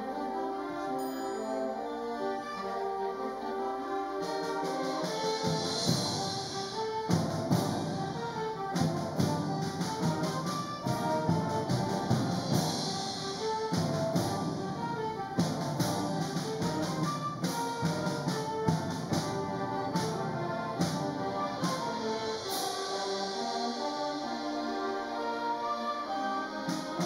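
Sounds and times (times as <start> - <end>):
orchestra playing: 0.0 - 27.0
percussion strikes: 1.0 - 2.2, 4.2 - 27.0.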